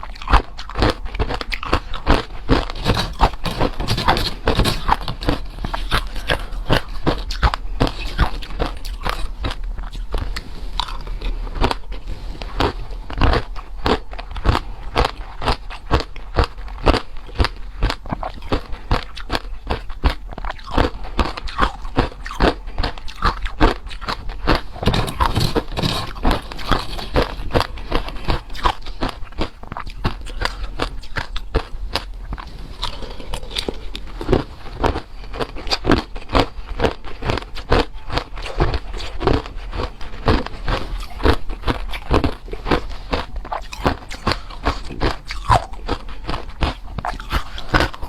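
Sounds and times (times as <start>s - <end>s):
crunching ice between teeth: 0.0s - 48.0s.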